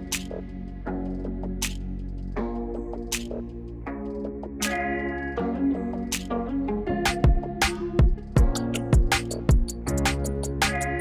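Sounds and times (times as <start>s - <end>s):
held music chords: 0.0s - 11.0s.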